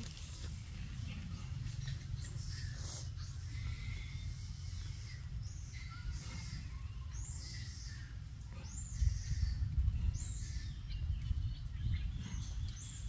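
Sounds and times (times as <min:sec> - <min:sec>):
low rumbling noise: 0:00.0 - 0:13.0
high chirping calls: 0:00.8 - 0:13.0.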